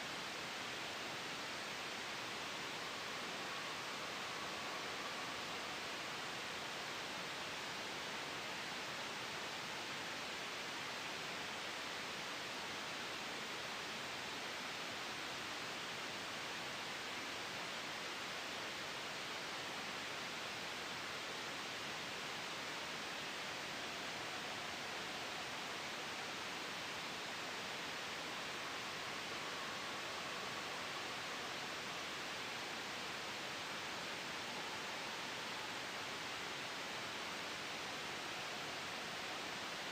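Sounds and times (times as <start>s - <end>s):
gentle wind: 0.0s - 39.9s
soft white noise hiss: 0.0s - 39.9s.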